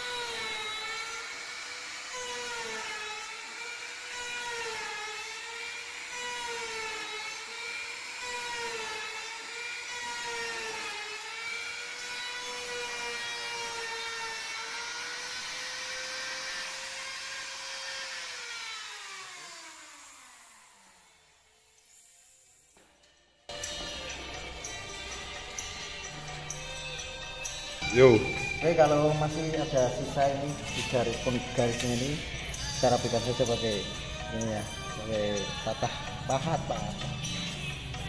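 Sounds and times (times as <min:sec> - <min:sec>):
router cutting wood: 0:00.0 - 0:22.6, 0:23.5 - 0:38.0.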